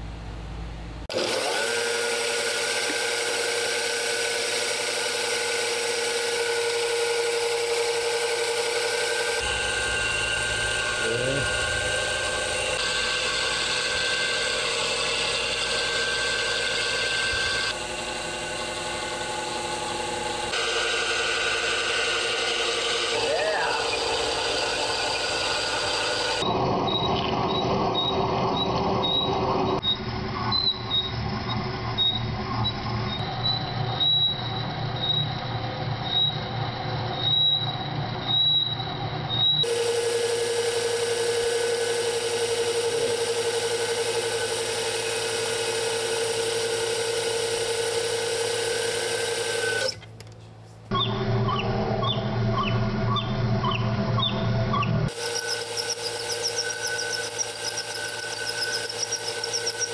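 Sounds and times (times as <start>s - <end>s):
milling cutter squealing: 1.2s - 50.1s, 50.9s - 59.9s.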